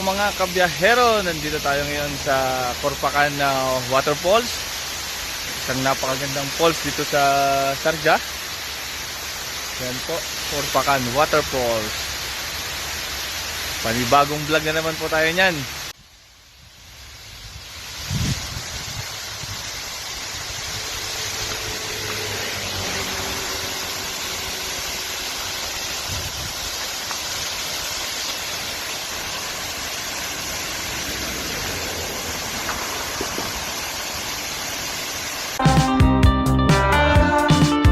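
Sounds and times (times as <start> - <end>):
waterfall rushing: 0.0 - 16.0, 17.8 - 35.8.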